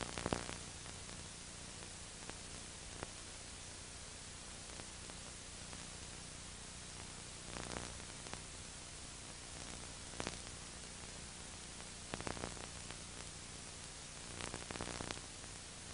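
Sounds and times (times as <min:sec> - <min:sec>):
faint crackles and clicks: 0:00.0 - 0:15.9
tape hiss and hum: 0:00.0 - 0:15.9.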